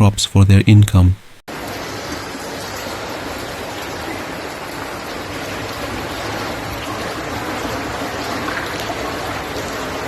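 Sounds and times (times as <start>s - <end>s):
water rushing: 1.5s - 10.0s.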